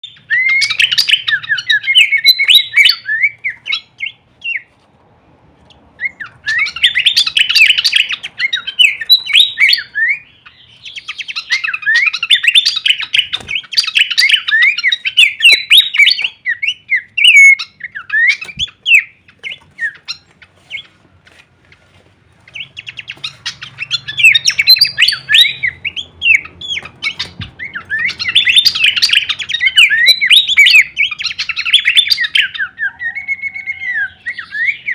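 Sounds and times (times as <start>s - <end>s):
bird chirping and chattering: 0.0s - 4.7s, 6.0s - 21.0s, 21.7s - 34.9s.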